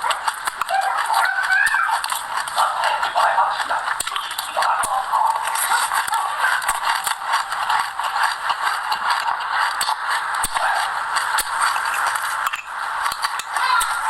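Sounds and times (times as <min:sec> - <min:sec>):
sharp clicks while chewing: 0:00.0 - 0:14.0
wet crackly chewing: 0:00.0 - 0:14.0.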